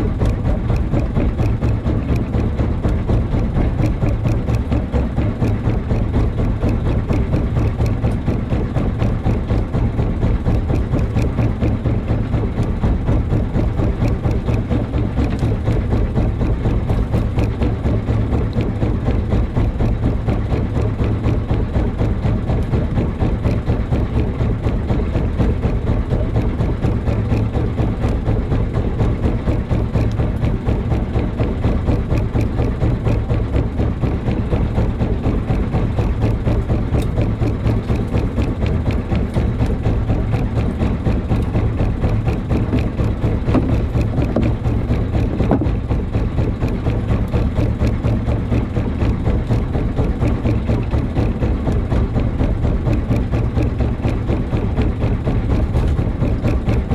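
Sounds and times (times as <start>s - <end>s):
boat engine idling: 0.0s - 56.9s.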